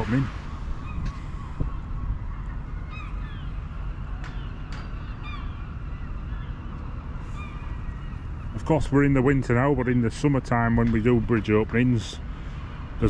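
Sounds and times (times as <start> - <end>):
gulls calling: 0.0 - 13.0
low background rumble: 0.0 - 13.0.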